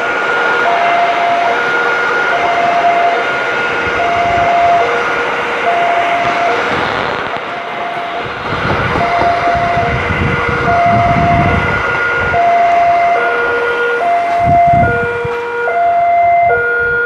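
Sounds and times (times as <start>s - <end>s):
train wheels rolling on rails: 0.0s - 17.0s
two-tone crossing alarm: 0.0s - 17.0s.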